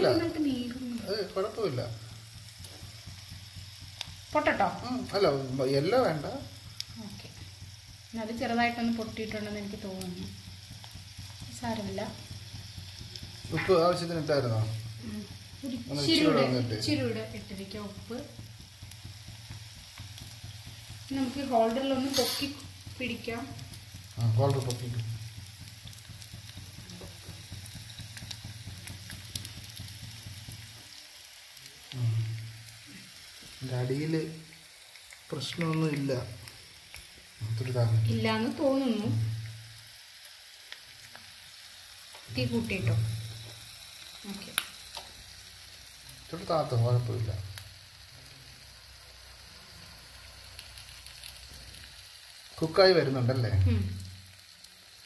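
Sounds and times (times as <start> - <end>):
egg sizzling in oil: 0.0 - 55.0.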